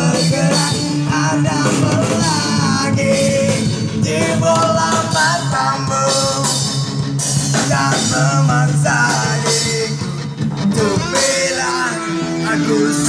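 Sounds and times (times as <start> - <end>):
drum kit: 0.0 - 13.0
guitar: 0.0 - 13.0
man singing: 0.0 - 13.0.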